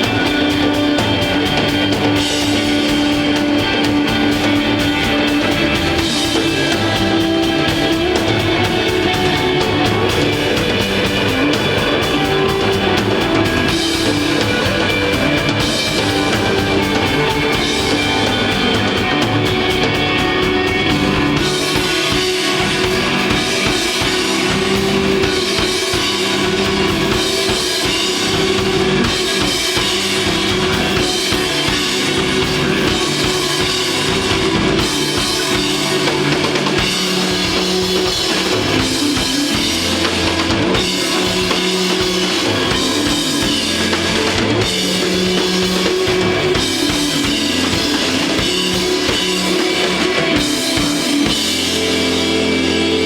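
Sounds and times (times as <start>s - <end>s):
drum kit: 0.0s - 53.0s
electric guitar: 0.0s - 53.0s
sustained bass notes: 0.0s - 53.0s.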